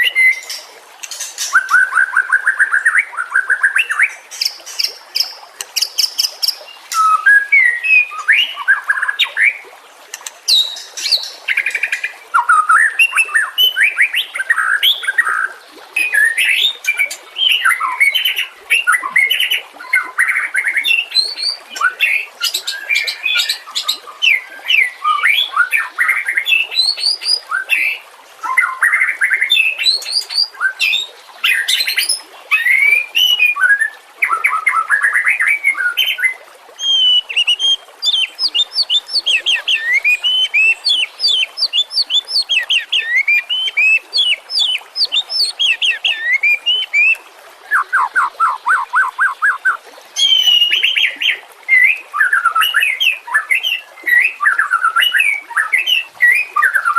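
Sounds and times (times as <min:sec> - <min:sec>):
songbird singing whistles and trills: 0:00.0 - 0:09.6, 0:10.5 - 0:56.9.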